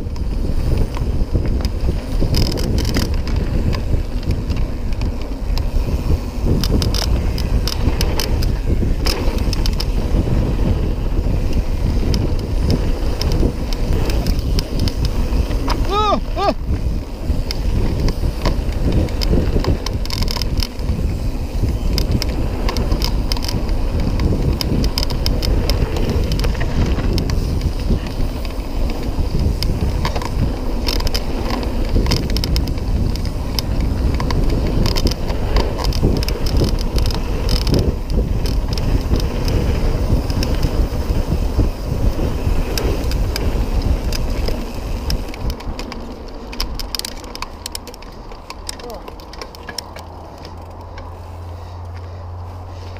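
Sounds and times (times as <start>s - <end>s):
bike clicks and rattles: 0.0s - 52.9s
tyres rumbling over dirt: 0.0s - 52.9s
wind buffeting microphone: 0.0s - 52.9s.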